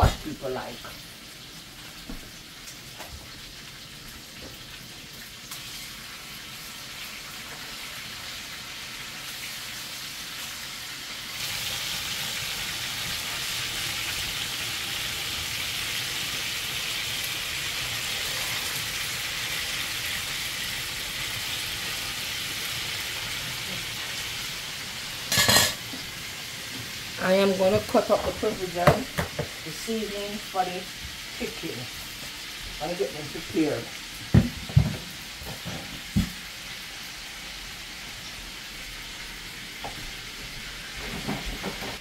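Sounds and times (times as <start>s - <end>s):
food sizzling in a pot: 0.0s - 42.0s.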